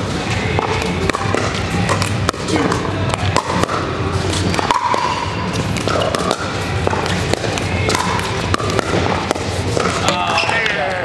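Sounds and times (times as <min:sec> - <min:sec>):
paddles striking a plastic ball: 0:00.5 - 0:10.4
ball bouncing on the court: 0:00.5 - 0:10.5.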